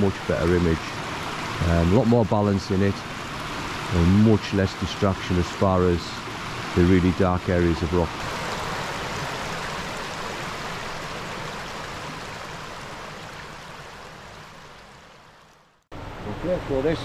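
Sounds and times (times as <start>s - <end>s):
waterfall rushing: 0.0s - 15.1s.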